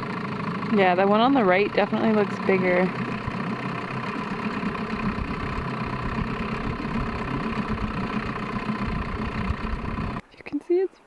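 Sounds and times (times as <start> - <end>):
boat engine idling: 0.0 - 10.2.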